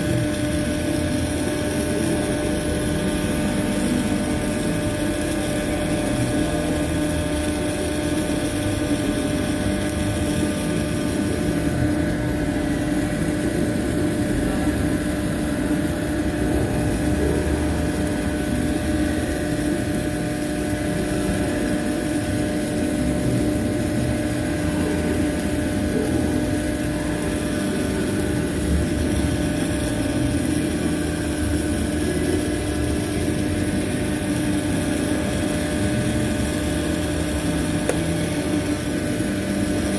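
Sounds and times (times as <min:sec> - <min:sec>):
welding equipment humming: 0:00.0 - 0:39.9.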